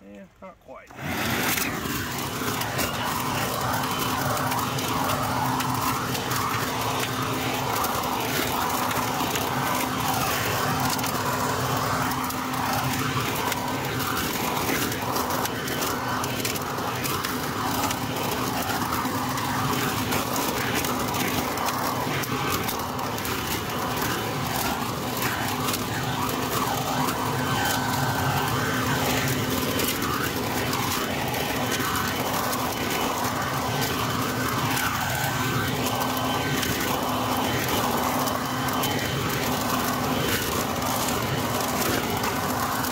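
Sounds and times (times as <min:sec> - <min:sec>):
leaf blower vacuum drone: 0:00.9 - 0:42.9
wet leaves crackling: 0:01.5 - 0:42.9.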